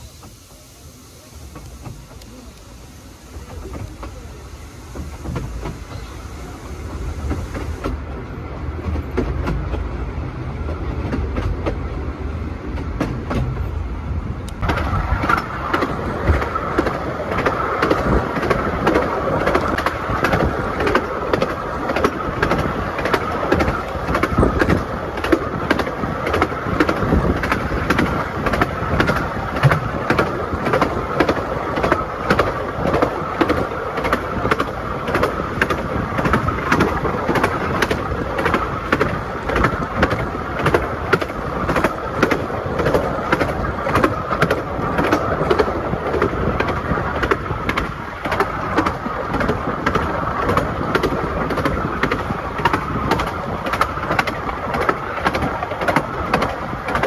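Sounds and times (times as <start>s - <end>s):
train rumble: 0.0s - 57.0s
wheels clickety-clack over rails: 0.0s - 57.0s.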